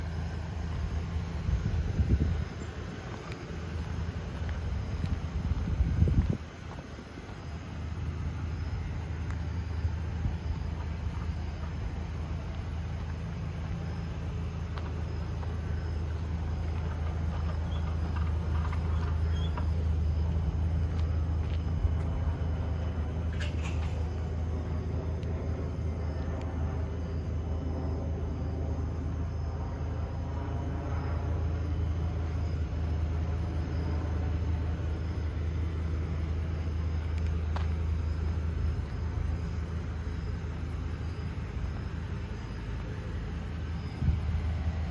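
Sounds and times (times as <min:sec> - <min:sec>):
truck engine idling: 0:00.0 - 0:44.9
faint ticks and chirps: 0:00.1 - 0:24.4, 0:31.7 - 0:44.9.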